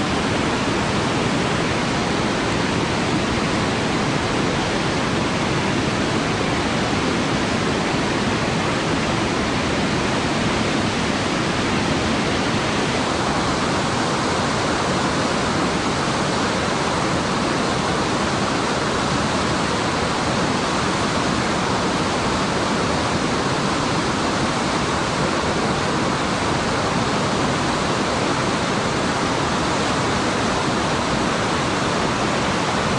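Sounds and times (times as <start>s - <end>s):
fast-flowing river rushing: 0.0s - 32.9s.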